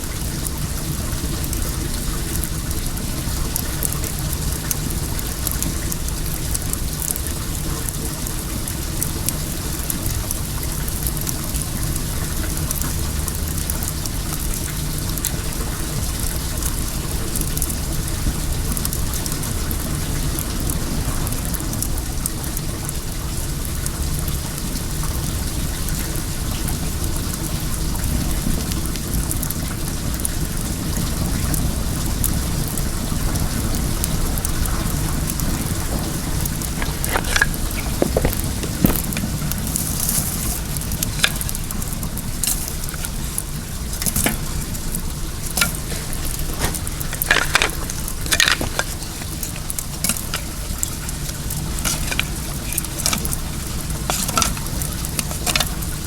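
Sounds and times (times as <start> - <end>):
flowing water: 0.0 - 56.0
wood fire crackling: 0.0 - 56.0.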